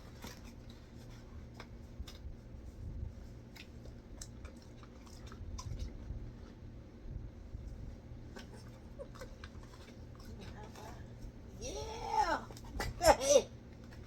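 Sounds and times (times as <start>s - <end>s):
dog chewing: 0.0s - 11.6s.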